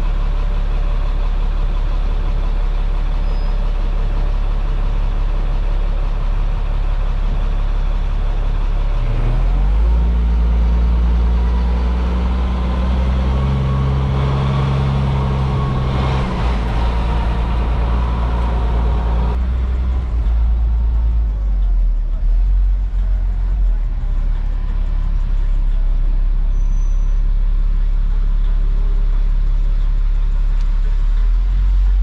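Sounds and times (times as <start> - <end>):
truck engine driving: 0.0 - 32.0.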